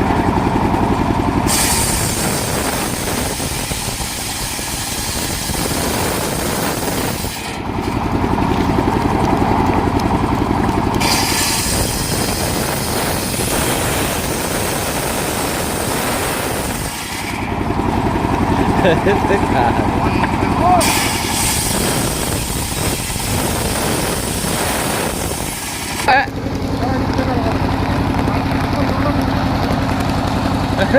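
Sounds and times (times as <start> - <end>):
circular saw cutting wood: 0.9 - 8.9, 9.5 - 30.9.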